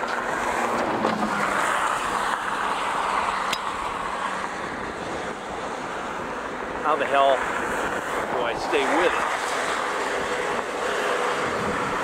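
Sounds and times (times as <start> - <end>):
vehicle running: 0.0 - 12.0
wind rushing: 0.3 - 12.0.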